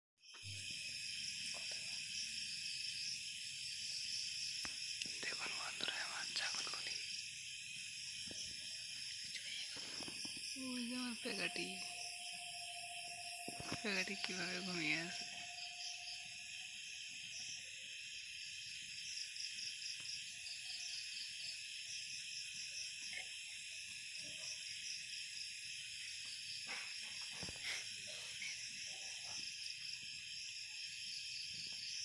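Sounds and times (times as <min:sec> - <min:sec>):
crickets chirring: 0:00.2 - 0:32.0.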